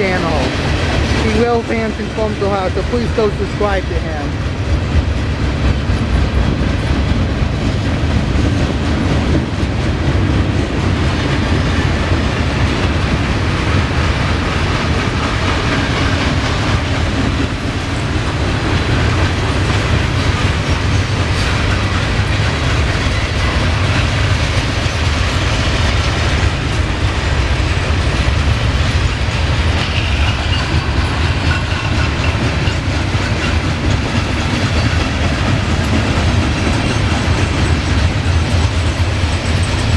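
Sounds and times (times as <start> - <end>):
steel wheels on rail: 0.0 - 39.9.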